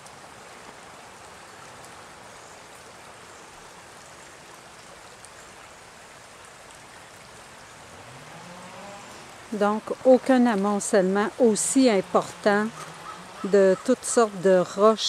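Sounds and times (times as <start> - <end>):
creek water rushing over stones: 0.0 - 15.0.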